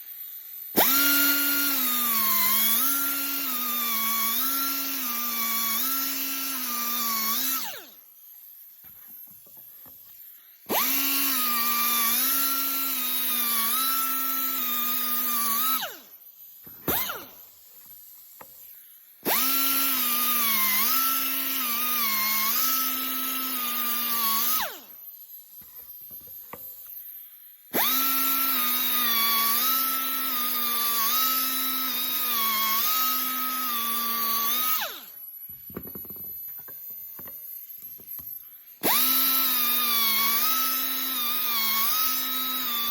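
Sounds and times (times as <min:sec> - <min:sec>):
grinder cutting metal: 0:00.0 - 0:08.1, 0:08.7 - 0:25.0, 0:27.7 - 0:42.9.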